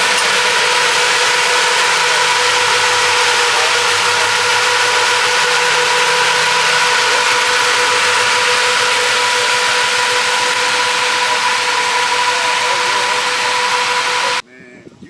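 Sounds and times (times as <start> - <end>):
car engine idling: 0.0 - 14.4
high whine: 0.0 - 14.4
loud hiss: 0.0 - 14.4.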